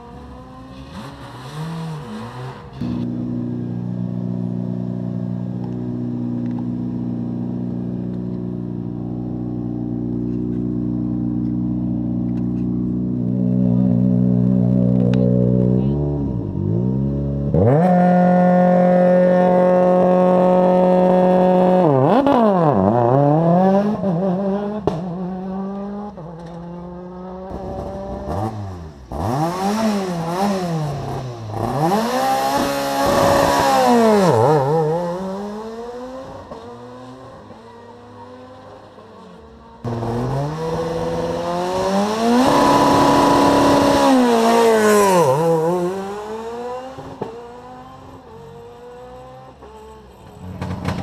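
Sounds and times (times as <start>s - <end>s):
second rally car engine revving: 0.0s - 39.0s, 39.8s - 49.9s
rally car engine revving: 0.0s - 51.0s.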